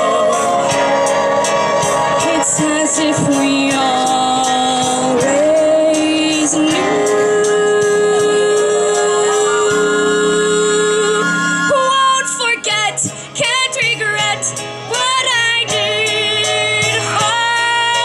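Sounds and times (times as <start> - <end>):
musical accompaniment: 0.0 - 18.0
girl singing a ballad: 2.2 - 18.0.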